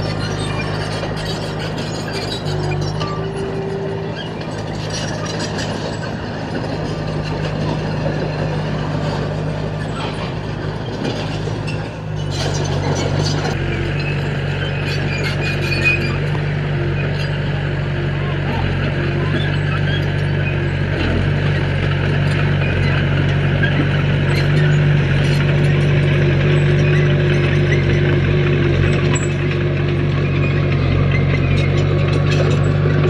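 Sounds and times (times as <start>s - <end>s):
diesel engine of earthmoving machine: 0.0s - 33.0s.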